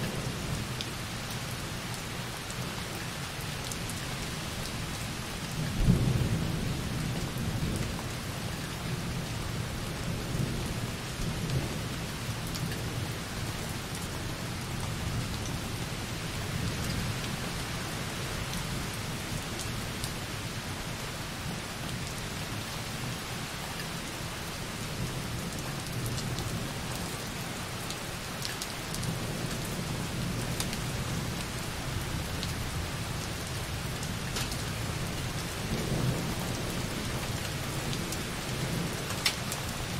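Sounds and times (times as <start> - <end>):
light rain on a window: 0.0 - 39.9.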